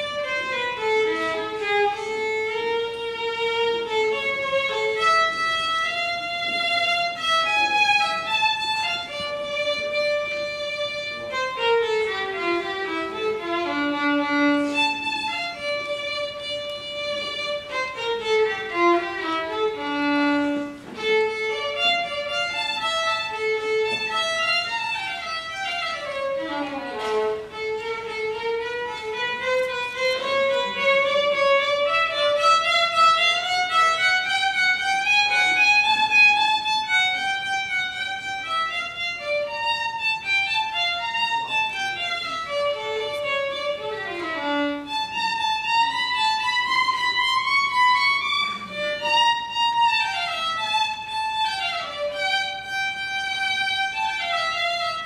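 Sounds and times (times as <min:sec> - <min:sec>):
bowed violin melody: 0:00.0 - 0:55.0.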